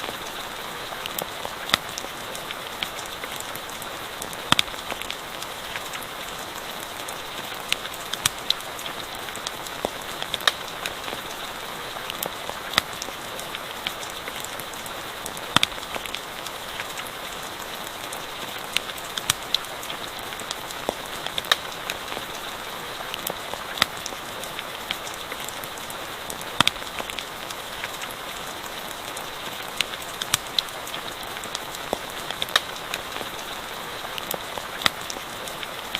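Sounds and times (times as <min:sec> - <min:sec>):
campfire crackling and popping: 0:00.0 - 0:35.9
steady rain falling: 0:00.0 - 0:35.9.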